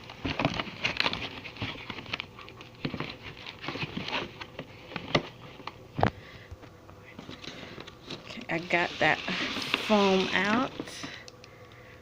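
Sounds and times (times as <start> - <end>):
cardboard and foam rustling: 0.0 - 6.0, 7.1 - 11.2.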